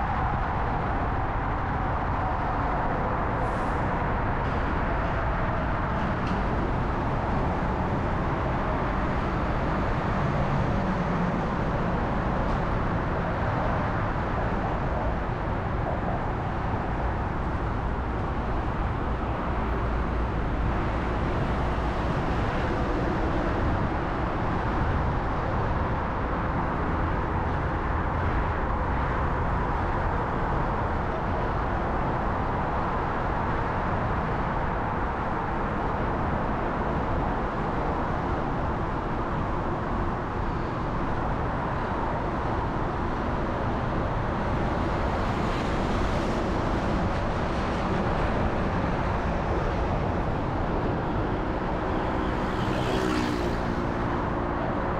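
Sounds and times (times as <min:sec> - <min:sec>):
city traffic noise: 0:00.0 - 0:54.9.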